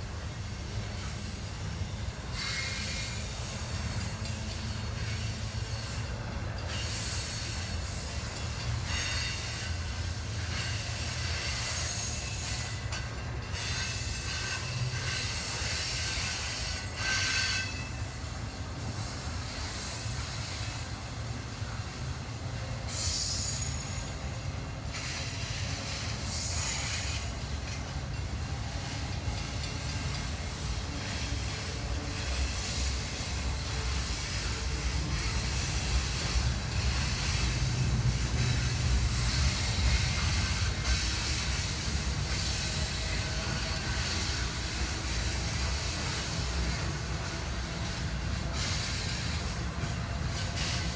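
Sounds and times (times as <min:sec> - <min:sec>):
freight train rumbling past: 0:00.0 - 0:50.9
train wheels squealing: 0:00.0 - 0:50.9.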